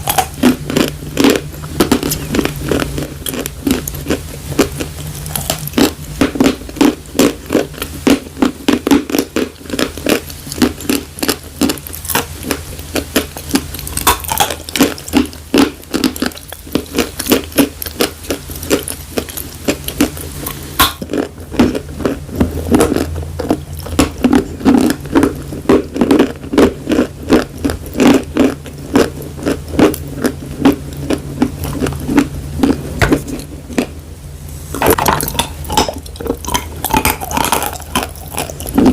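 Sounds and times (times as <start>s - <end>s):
crisp chewing crunches: 0.0s - 34.0s, 34.8s - 38.9s.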